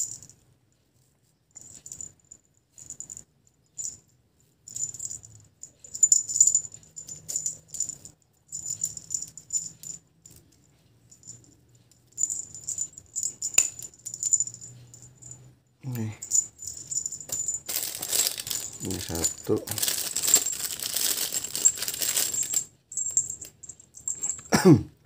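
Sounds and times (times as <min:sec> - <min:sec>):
small bell jingling: 0:01.6 - 0:24.5.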